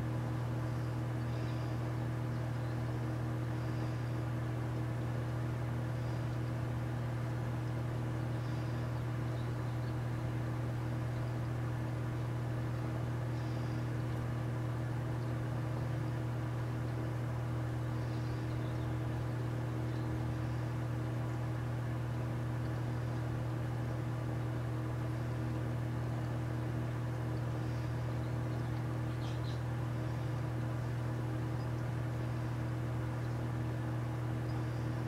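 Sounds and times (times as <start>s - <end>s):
fountain pump humming: 0.0s - 35.0s.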